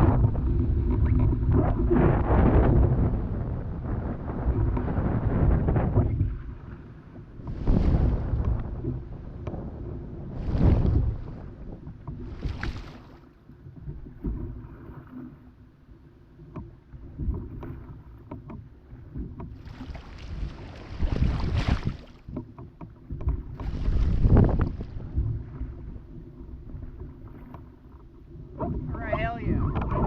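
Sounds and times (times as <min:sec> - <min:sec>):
wind buffeting microphone: 0:00.0 - 0:15.1, 0:19.0 - 0:22.5, 0:23.1 - 0:27.5, 0:28.3 - 0:30.0
water splashing around paddle: 0:00.0 - 0:30.0.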